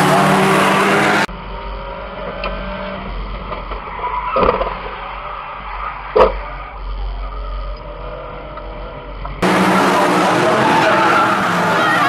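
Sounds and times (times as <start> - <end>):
low engine drone: 0.0 - 12.0
race car engines running loud: 0.0 - 12.0.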